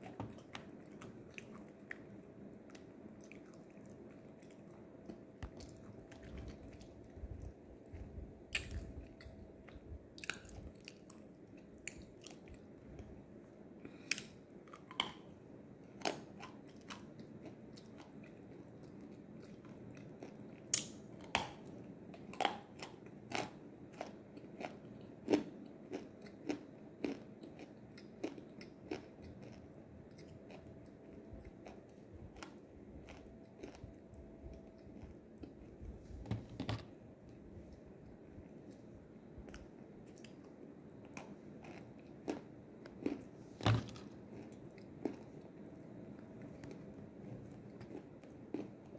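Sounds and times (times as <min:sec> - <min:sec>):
person chewing crunchy clay: 0:00.0 - 0:13.1, 0:16.0 - 0:35.8, 0:41.0 - 0:48.9.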